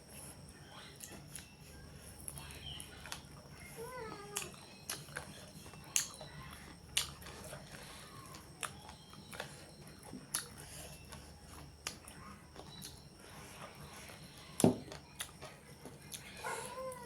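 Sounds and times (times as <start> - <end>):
person chewing food: 0.1 - 16.9.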